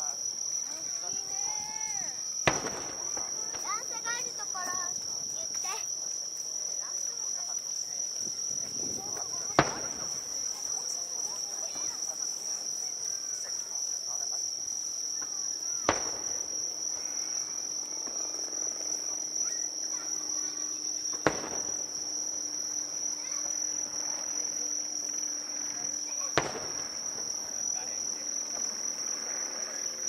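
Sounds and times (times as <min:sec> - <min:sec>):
fireworks bursting: 0:00.0 - 0:07.6, 0:08.2 - 0:30.0
insect chirring: 0:00.0 - 0:30.0.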